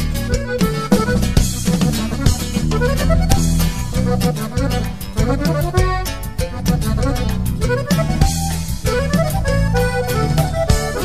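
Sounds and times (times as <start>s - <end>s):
accordion melody: 0.0s - 11.0s
bass: 0.0s - 11.0s
drum kit: 0.0s - 11.0s.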